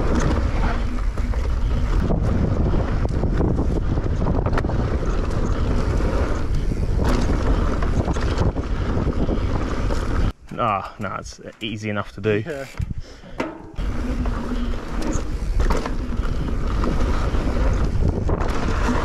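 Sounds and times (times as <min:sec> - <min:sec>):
bike rattling over bumps: 0:00.0 - 0:10.4, 0:13.3 - 0:19.0
wind buffeting microphone: 0:00.0 - 0:10.4, 0:12.8 - 0:19.0
tyres rolling on dirt: 0:00.0 - 0:11.5, 0:13.4 - 0:19.0.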